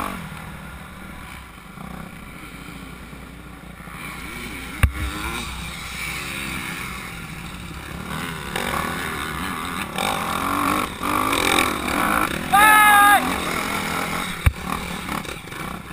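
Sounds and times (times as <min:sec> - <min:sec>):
motocross bike engine revving: 0:00.0 - 0:15.9.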